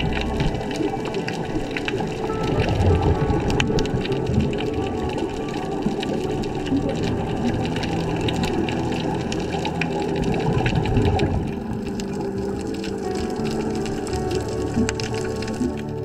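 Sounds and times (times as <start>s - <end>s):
underwater rush of water and bubbling: 0.0s - 16.0s.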